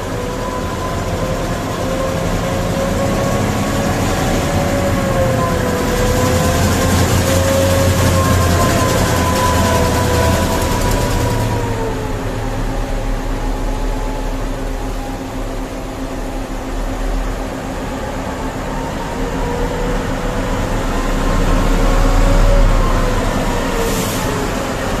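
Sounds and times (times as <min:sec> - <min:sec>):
haul truck engine drone: 0:00.0 - 0:25.0.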